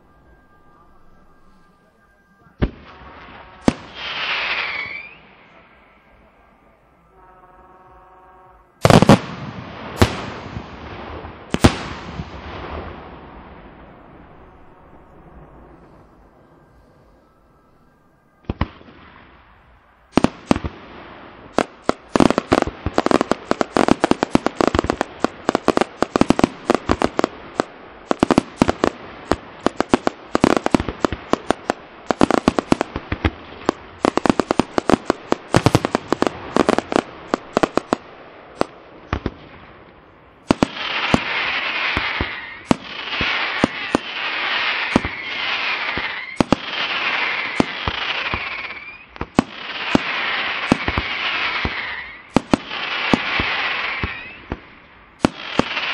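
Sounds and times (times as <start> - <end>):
fireworks bangs and crackles: 0.0 - 7.3, 8.8 - 17.6, 18.2 - 55.9
hissing crackle of fireworks: 0.0 - 55.9.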